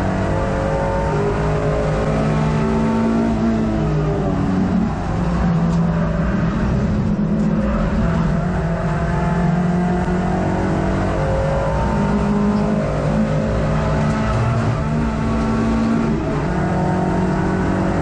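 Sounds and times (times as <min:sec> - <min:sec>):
car engine at speed from inside: 0:00.0 - 0:18.0.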